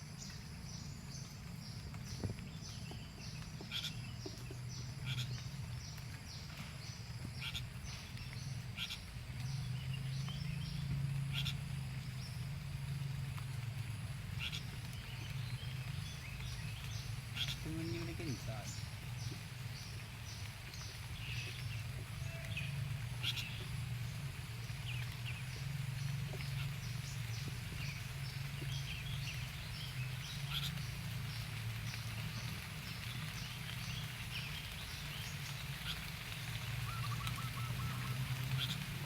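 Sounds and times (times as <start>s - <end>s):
low steady hum: 0.0s - 39.0s
small birds cheeping: 0.0s - 39.0s.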